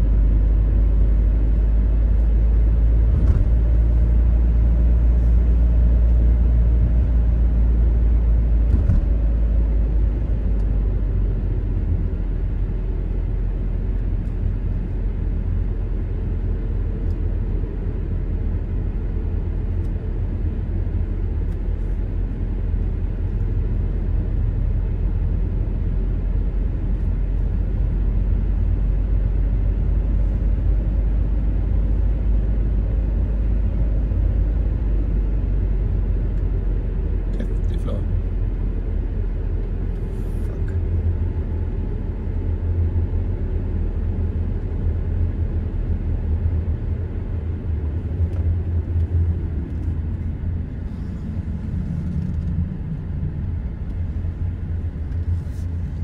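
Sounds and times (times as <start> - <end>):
car driving heard from inside: 0.0 - 56.0.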